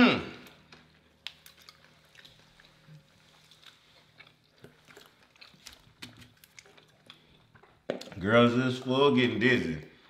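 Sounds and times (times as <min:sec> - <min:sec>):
chewing crunchy food: 0:00.4 - 0:09.0.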